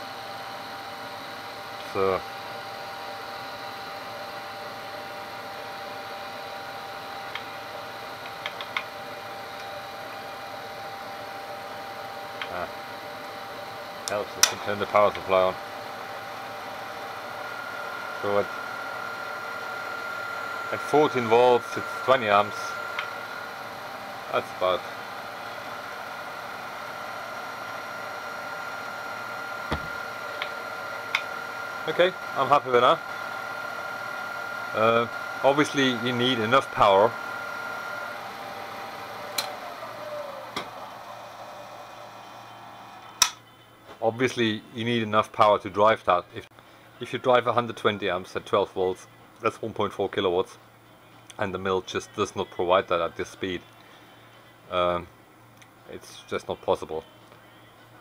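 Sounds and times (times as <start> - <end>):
machine spindle whirring and whining: 0.0 - 58.0.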